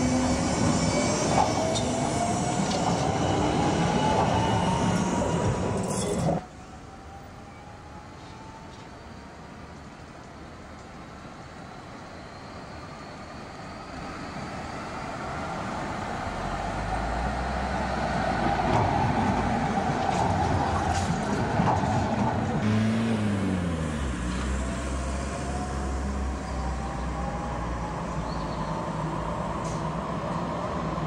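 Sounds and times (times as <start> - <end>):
electric tram passing: 0.0 - 31.0.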